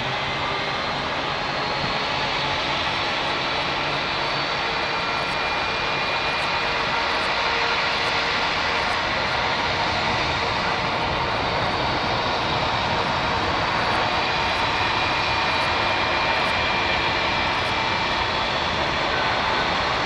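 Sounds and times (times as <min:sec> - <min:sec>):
airliner jet engines: 0:00.0 - 0:20.0.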